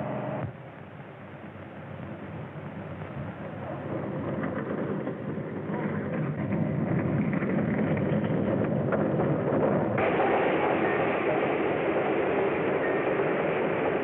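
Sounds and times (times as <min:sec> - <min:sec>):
passing train rumble: 0:00.0 - 0:14.0.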